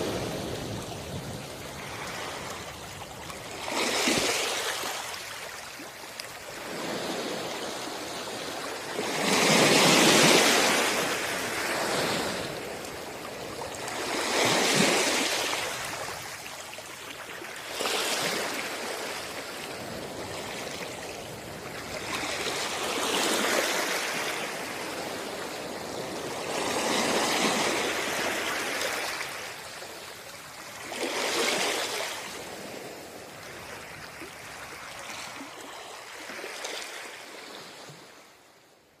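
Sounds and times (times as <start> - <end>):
sea waves washing onto beach: 0.0 - 37.8.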